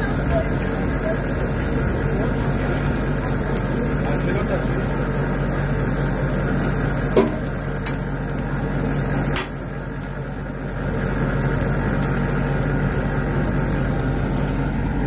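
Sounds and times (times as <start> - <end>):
flame grill hum and hiss: 0.0 - 15.0.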